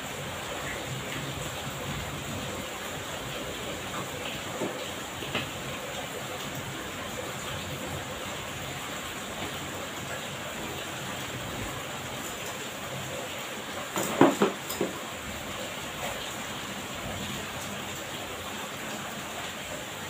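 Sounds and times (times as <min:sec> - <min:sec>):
heavy rain on ground and roof: 0:00.0 - 0:20.0.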